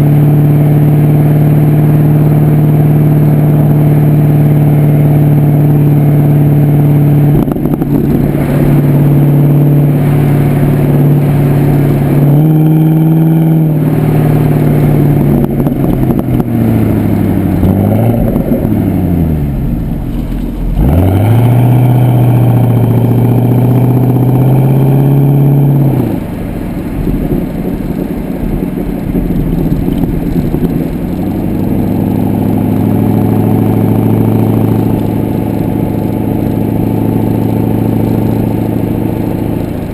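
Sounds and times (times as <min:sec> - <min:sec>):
car engine exhaust while driving: 0:00.0 - 0:39.9.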